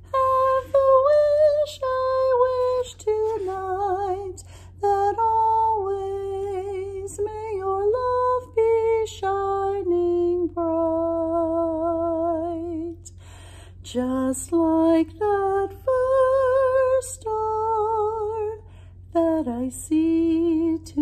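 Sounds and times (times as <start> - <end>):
woman singing unaccompanied: 0.0 - 13.2, 13.8 - 21.0.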